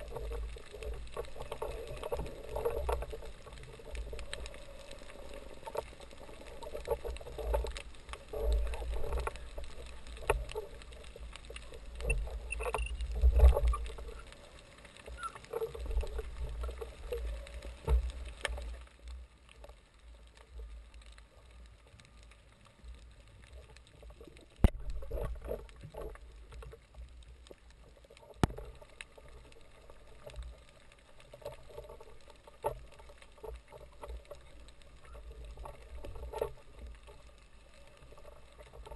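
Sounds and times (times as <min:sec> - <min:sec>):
underwater water swishing: 0:00.0 - 0:38.9.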